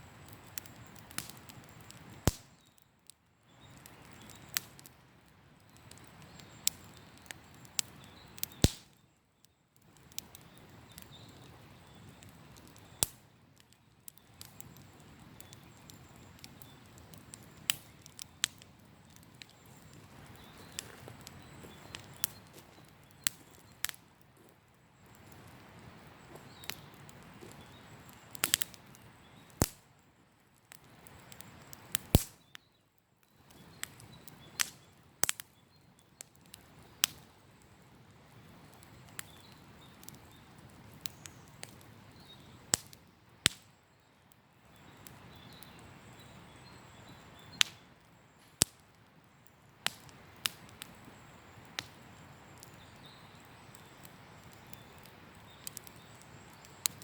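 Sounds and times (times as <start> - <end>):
campfire crackling: 0.0 - 57.0
fire pops and snaps: 0.1 - 44.1, 44.7 - 57.0.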